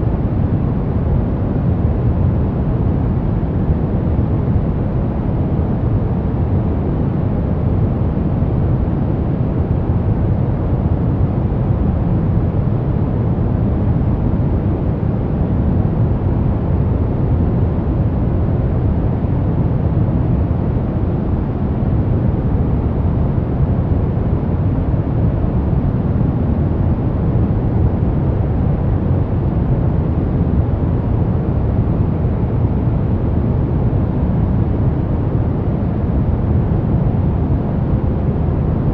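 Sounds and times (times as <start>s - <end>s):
deep white noise rush: 0.0s - 38.9s.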